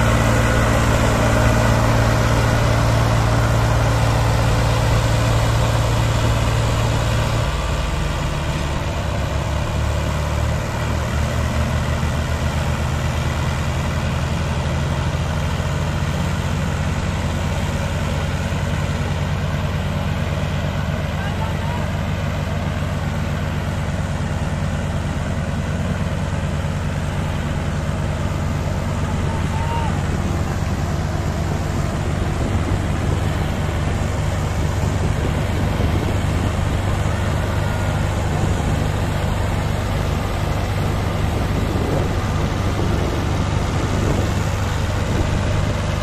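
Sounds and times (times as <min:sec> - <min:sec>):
diesel tractor engines under load: 0:00.0 - 0:46.0.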